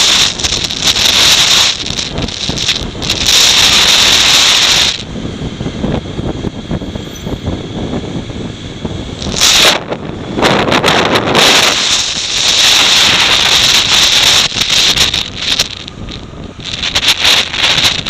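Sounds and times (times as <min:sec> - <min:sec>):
low crackly rumble: 0:00.0 - 0:18.0
wind buffeting microphone: 0:00.0 - 0:18.0.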